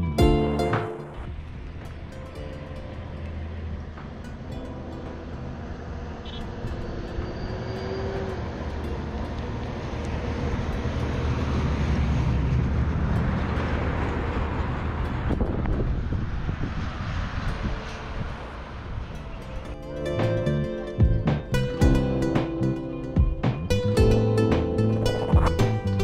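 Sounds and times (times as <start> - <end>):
vehicle engine and tyres rumbling: 0.0 - 26.0
rushing wind: 0.2 - 26.0.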